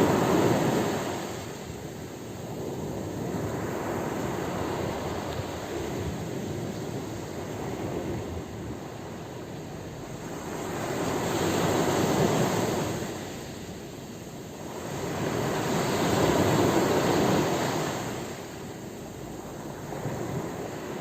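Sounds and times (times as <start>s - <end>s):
waves washing on shore: 0.0s - 21.0s.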